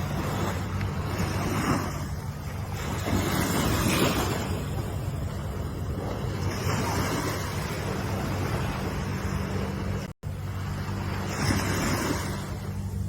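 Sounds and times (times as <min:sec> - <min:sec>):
ocean waves surf: 0:00.0 - 0:13.0.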